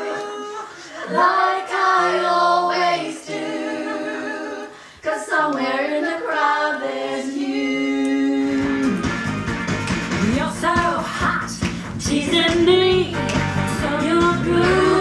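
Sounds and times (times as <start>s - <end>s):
voices singing: 0.0s - 9.4s, 10.2s - 15.0s.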